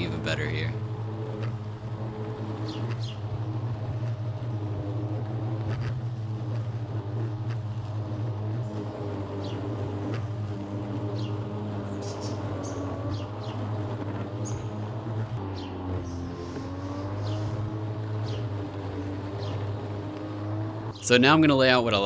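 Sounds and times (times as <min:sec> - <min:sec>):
lawn mower humming: 0:00.0 - 0:22.0.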